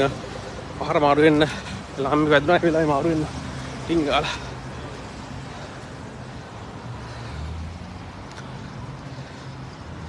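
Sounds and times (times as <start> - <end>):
street noise: 0.0 - 10.0
vehicle engine humming: 0.0 - 10.0.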